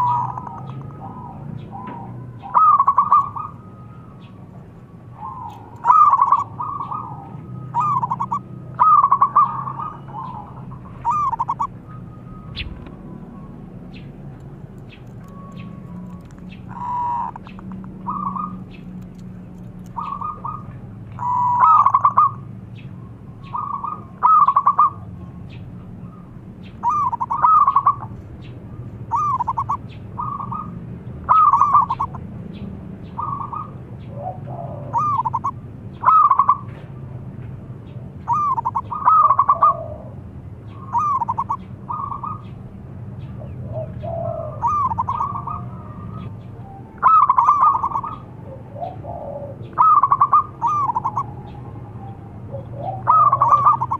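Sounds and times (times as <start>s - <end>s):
dove cooing: 0.0s - 4.4s, 5.0s - 22.6s, 23.4s - 25.1s, 25.9s - 28.2s, 28.8s - 32.2s, 33.1s - 36.8s, 38.2s - 42.6s, 43.4s - 53.9s.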